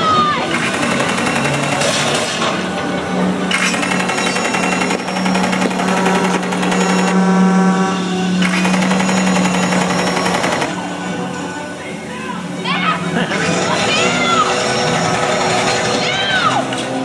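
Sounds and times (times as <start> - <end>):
watercraft engines pulsing drone: 0.0 - 17.0.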